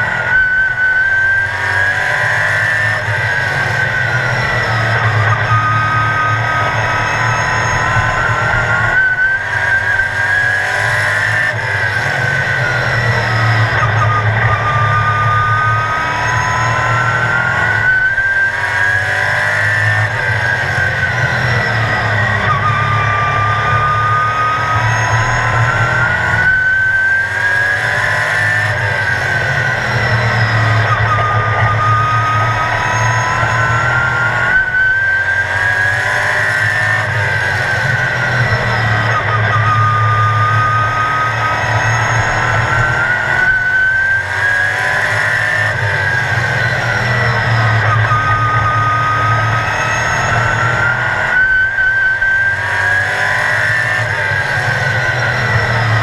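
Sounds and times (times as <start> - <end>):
race car engine from inside: 0.0 - 56.0.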